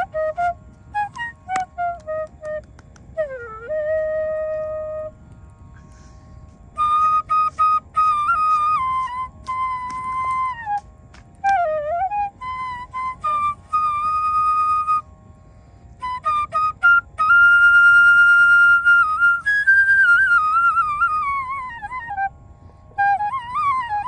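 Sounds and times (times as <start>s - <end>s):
wooden flute melody: 0.0s - 24.0s.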